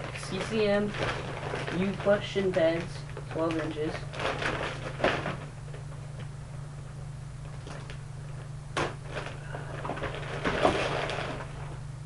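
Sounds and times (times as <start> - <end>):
knocks and rustles of handling: 0.0 - 11.9
steady low hum: 0.0 - 12.0.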